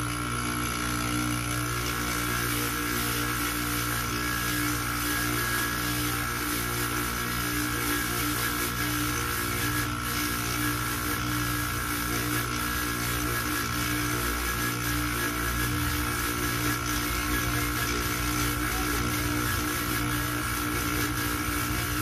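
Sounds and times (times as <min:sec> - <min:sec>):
polishing motor humming and whining: 0:00.0 - 0:22.0.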